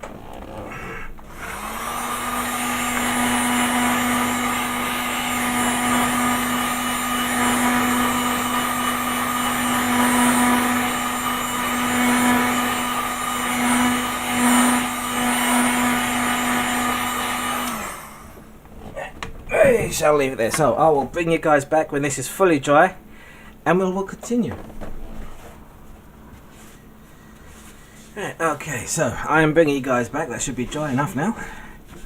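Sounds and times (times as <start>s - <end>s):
hot-air blower humming: 0.0s - 32.0s.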